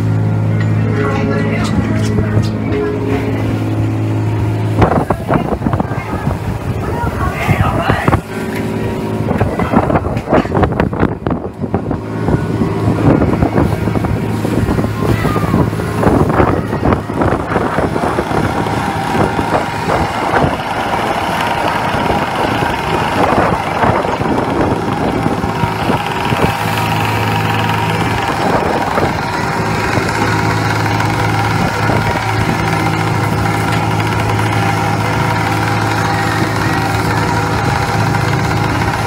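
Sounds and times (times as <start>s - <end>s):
boat engine humming: 0.0s - 39.0s
rough sea wash: 0.0s - 39.0s.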